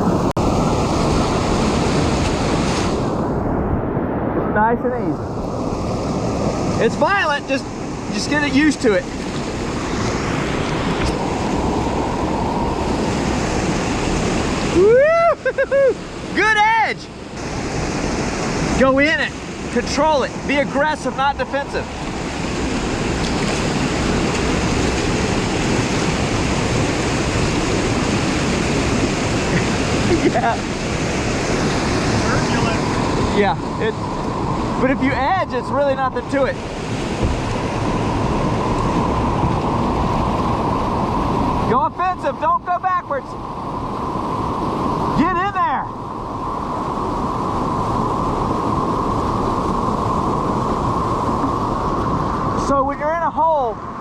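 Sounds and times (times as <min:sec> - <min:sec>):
whitewater rushing: 0:00.0 - 0:03.5, 0:04.6 - 0:54.0.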